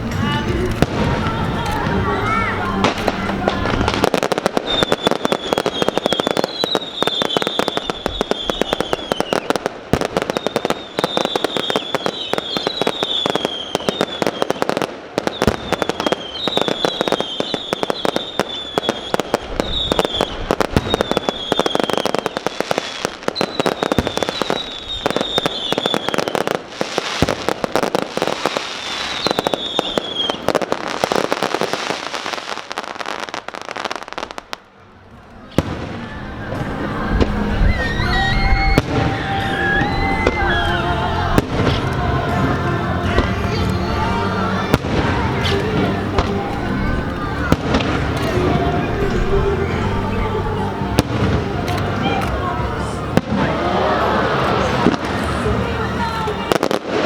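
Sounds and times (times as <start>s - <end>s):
fireworks whistling: 0.0s - 34.8s, 35.4s - 57.0s
fireworks crackling and banging: 0.0s - 57.0s.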